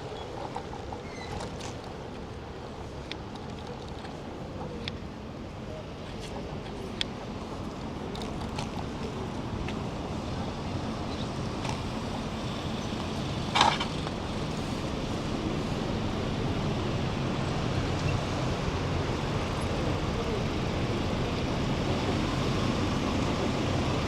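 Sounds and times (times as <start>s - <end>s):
passing traffic: 0.0s - 24.0s.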